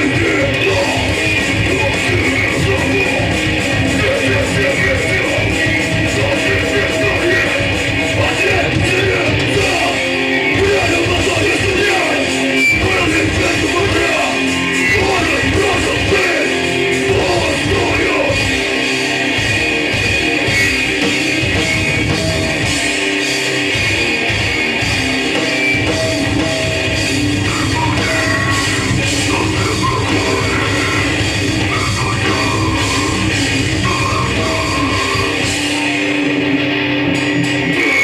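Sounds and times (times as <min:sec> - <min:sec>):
distorted electric guitars: 0:00.0 - 0:38.0
punk band playing live: 0:00.0 - 0:38.0.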